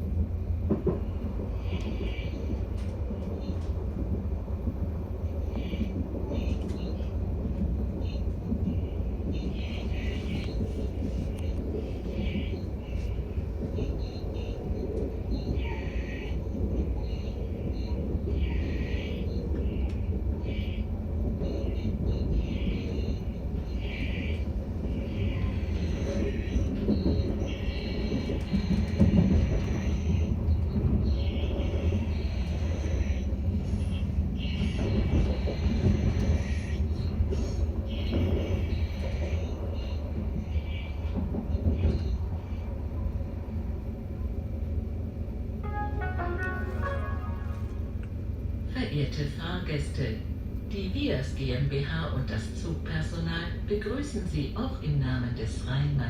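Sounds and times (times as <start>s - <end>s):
train running with low rumble: 0.0s - 56.0s.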